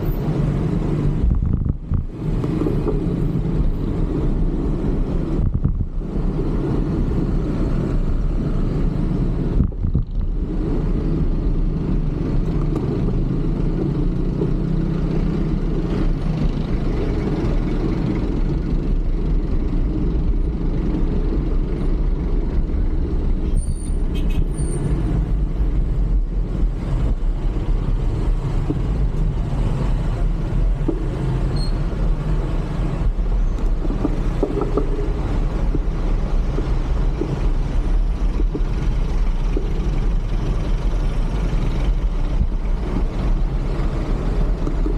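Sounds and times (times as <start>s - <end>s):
wind rumble on microphone: 0.0s - 23.6s, 24.9s - 44.9s
road traffic noise: 0.0s - 44.9s.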